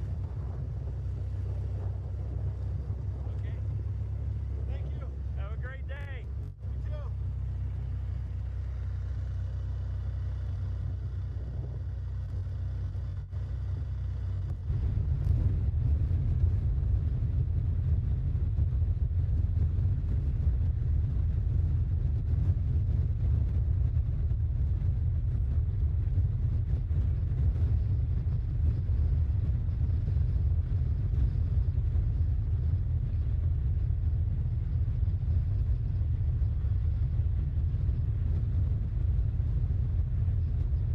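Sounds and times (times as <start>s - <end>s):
vehicle running noise: 0.0s - 40.9s
wind buffeting microphone: 0.0s - 40.9s.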